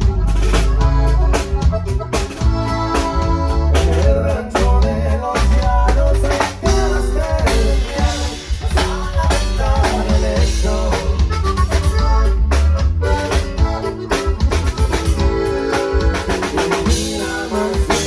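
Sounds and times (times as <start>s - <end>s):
bass drum and snare: 0.0s - 18.0s
heavy bass: 0.0s - 18.0s
keyboard or organ: 0.0s - 18.0s
live band playing: 0.0s - 18.0s.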